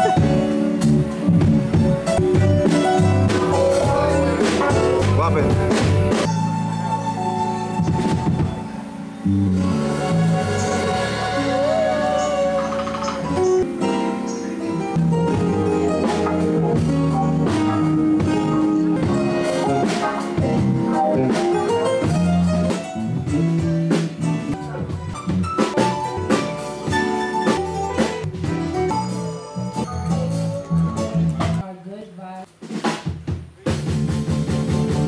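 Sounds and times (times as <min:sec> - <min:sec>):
bass guitar: 0:00.0 - 0:31.6, 0:33.4 - 0:35.0
electric guitar: 0:00.0 - 0:31.6
drum kit: 0:00.0 - 0:31.7, 0:32.4 - 0:35.0.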